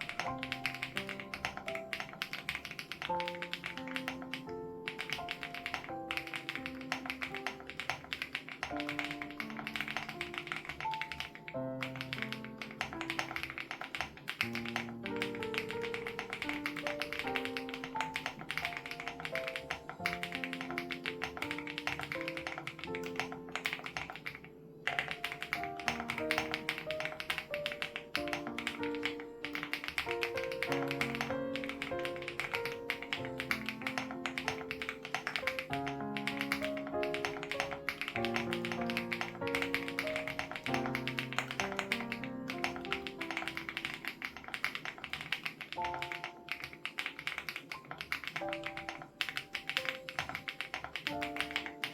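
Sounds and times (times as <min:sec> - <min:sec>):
mechanical keyboard typing: 0:00.0 - 0:51.9
soft background music: 0:00.0 - 0:51.9.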